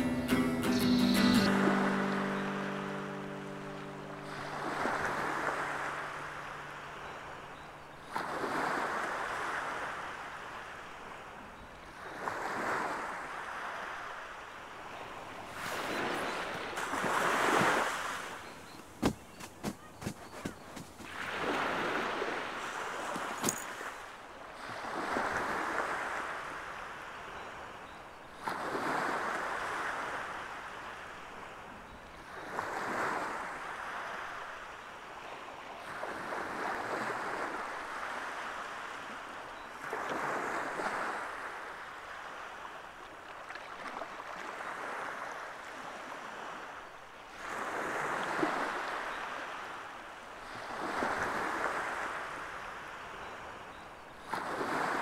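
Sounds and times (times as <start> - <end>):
small waves washing onto shore: 0.0 - 27.8, 28.4 - 55.0.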